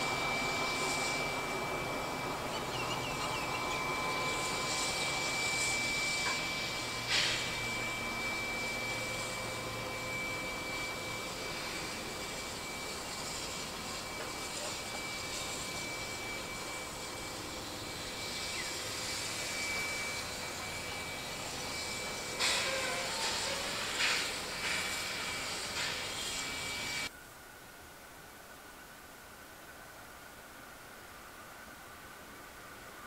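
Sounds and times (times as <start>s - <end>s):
steam locomotive hissing: 0.0s - 27.1s
thin high whine: 0.0s - 27.3s.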